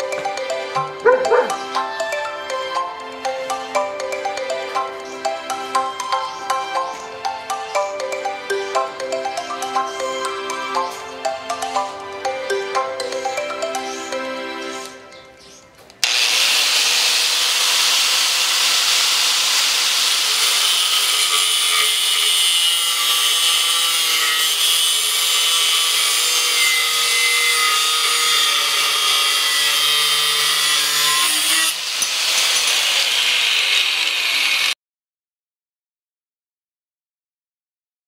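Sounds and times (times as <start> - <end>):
angle grinder cutting steel: 0.0 - 15.0, 16.0 - 34.8.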